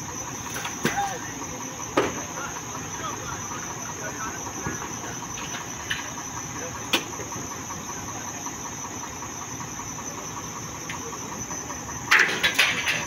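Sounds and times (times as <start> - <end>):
crickets chirring: 0.0 - 13.0
truck engine running: 0.0 - 13.0.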